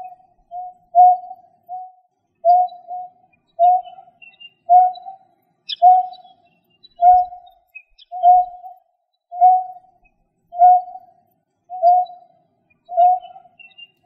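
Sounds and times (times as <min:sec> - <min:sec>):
bird low hooting call: 0:00.0 - 0:08.7, 0:09.4 - 0:09.9, 0:10.5 - 0:11.1, 0:11.7 - 0:12.3, 0:12.9 - 0:14.0
faint high chirps: 0:00.0 - 0:14.0.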